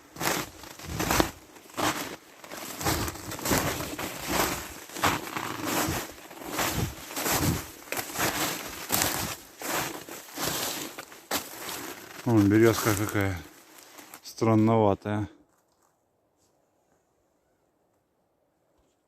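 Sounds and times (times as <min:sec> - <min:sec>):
footsteps crunching on frozen ground: 0:00.0 - 0:16.0.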